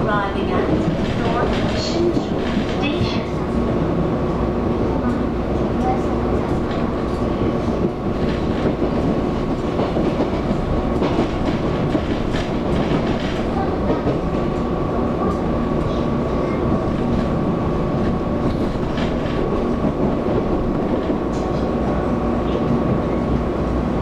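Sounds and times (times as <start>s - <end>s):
rail clicks: 0.0s - 24.0s
train wheels rumbling on rail: 0.0s - 24.0s.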